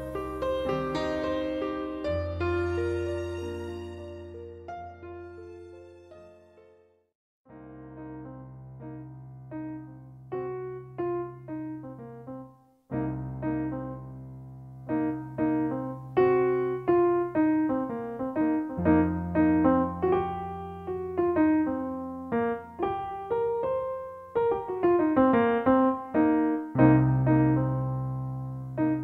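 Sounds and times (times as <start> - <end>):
gentle piano music: 0.0 - 29.0.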